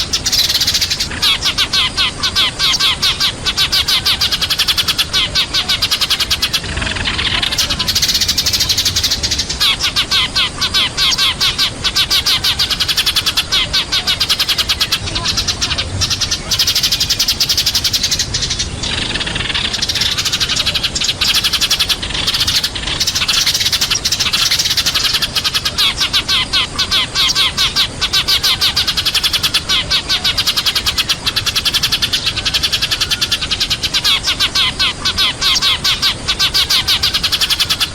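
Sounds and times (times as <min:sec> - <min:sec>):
sparrows chirping: 0:00.0 - 0:37.9.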